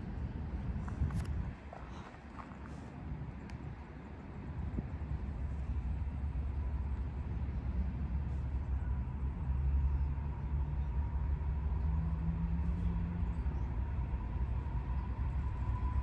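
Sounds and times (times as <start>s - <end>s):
distant diesel freight train rumble: 0.0s - 16.0s
faint drone: 0.0s - 16.0s
faint steady whine: 0.0s - 16.0s.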